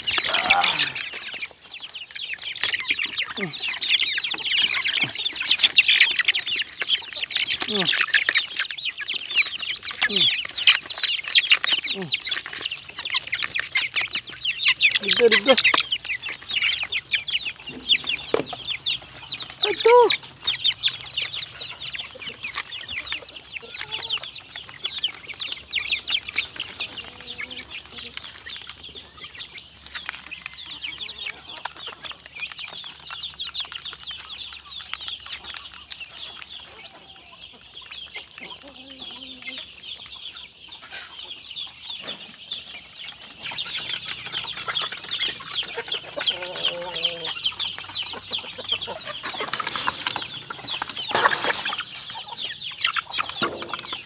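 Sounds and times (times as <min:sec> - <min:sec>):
chicks peeping: 0:00.0 - 0:54.0
hen clucks: 0:00.0 - 0:54.0.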